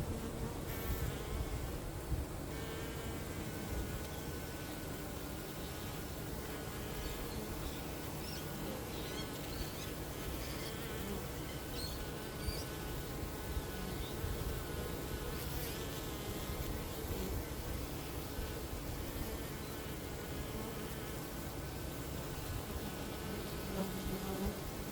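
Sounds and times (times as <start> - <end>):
bees buzzing: 0.0 - 24.9.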